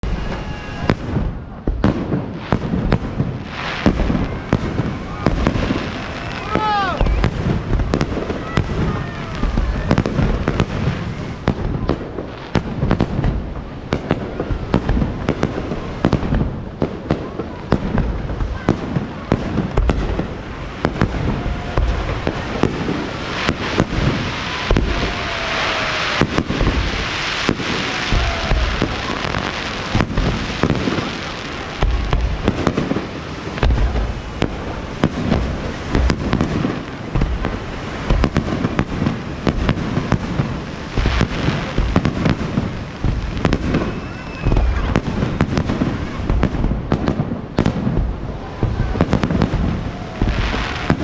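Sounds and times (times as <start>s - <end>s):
fireworks booming: 0.0s - 51.0s
fireworks crackling: 0.0s - 51.0s.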